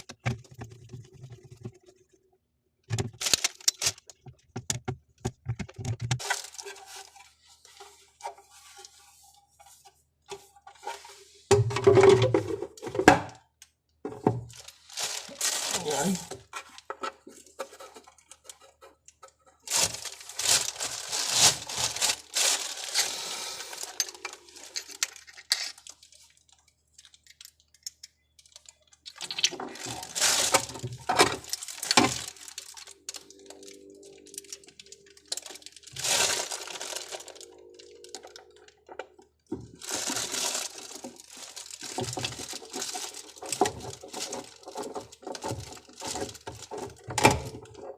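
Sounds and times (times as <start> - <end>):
parts and tools rustling and clattering: 2.8 - 47.9.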